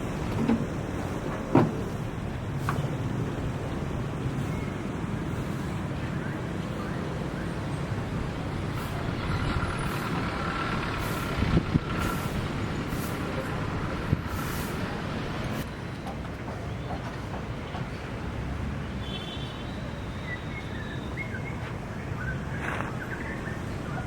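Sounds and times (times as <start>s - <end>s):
road vehicles rumbling: 0.0s - 24.0s.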